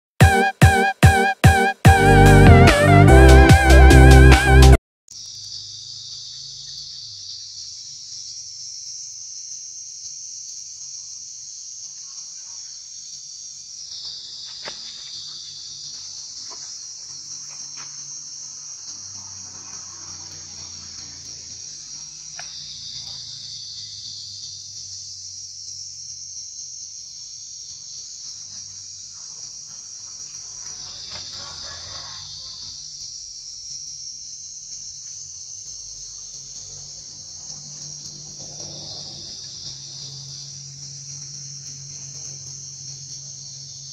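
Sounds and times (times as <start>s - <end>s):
insects chirring: 5.1s - 43.9s.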